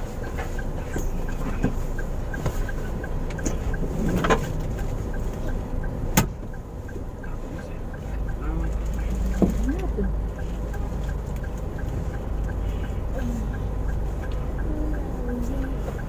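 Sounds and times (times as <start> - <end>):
car engine idling: 0.0 - 16.0
faint regular ticking: 0.0 - 16.0.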